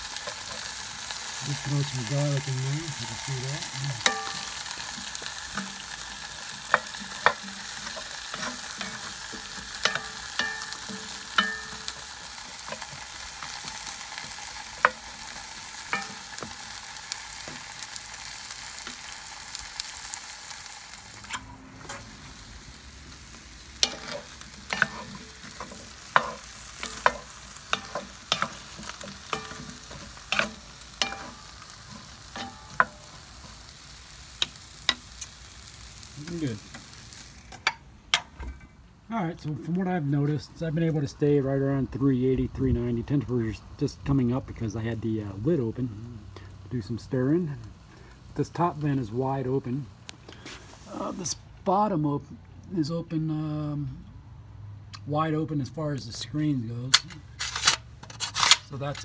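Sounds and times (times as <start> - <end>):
vegetables sizzling in a pot: 0.0 - 38.4, 39.9 - 51.9.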